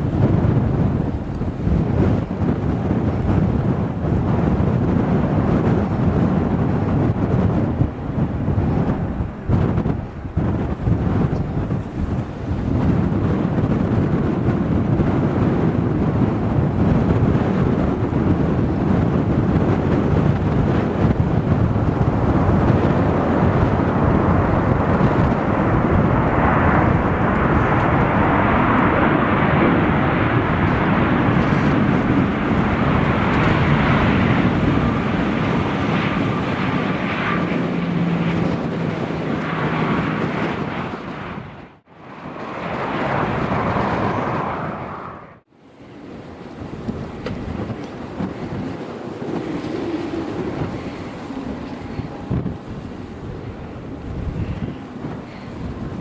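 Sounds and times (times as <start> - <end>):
jet engines roaring: 0.0 - 56.0
wind buffeting microphone: 0.0 - 56.0.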